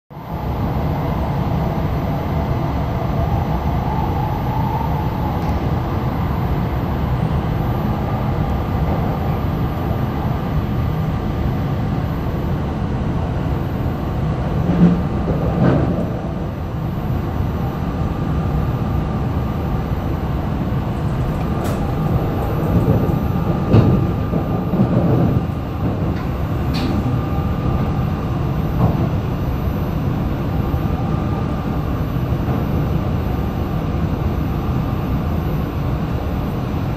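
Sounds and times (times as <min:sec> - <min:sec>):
train running rumble: 0:00.1 - 0:36.9.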